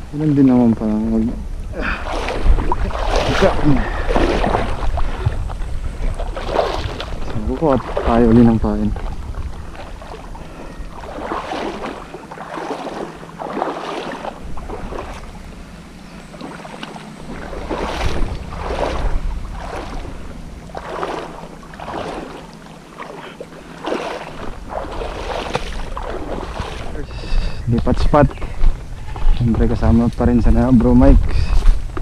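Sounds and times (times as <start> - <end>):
footsteps wading through water: 1.8 - 32.0.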